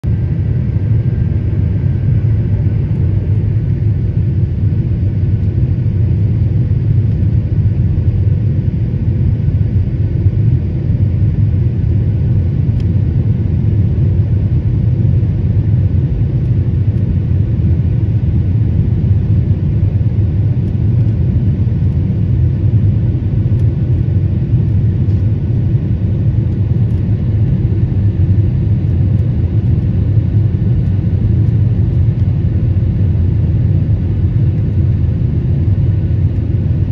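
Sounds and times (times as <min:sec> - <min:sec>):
airliner engines rumbling in cabin: 0:00.0 - 0:36.9.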